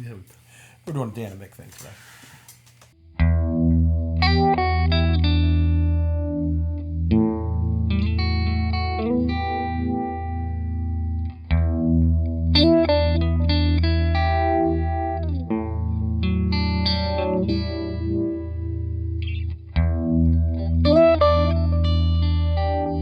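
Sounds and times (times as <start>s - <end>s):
overdriven electric guitar: 3.2s - 23.0s.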